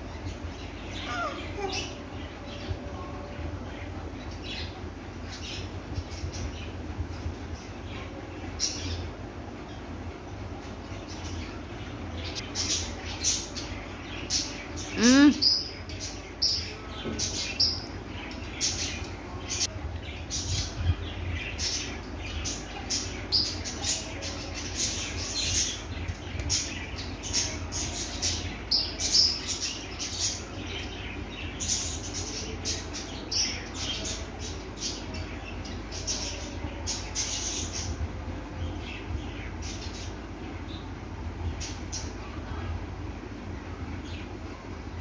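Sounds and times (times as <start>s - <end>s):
birds chirping: 0.0s - 45.0s
low steady rumble: 0.0s - 45.0s.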